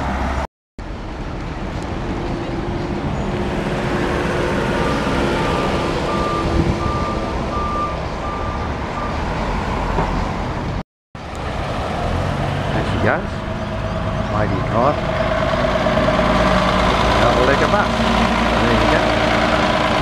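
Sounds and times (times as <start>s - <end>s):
bus engine pulling away: 0.0s - 20.0s
street traffic: 0.0s - 20.0s.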